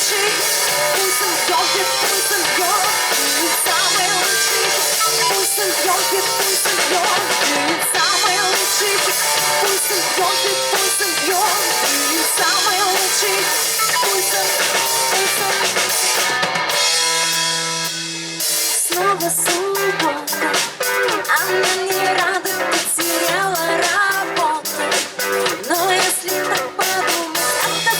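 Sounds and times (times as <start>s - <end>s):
live rock band playing: 0.0s - 27.9s.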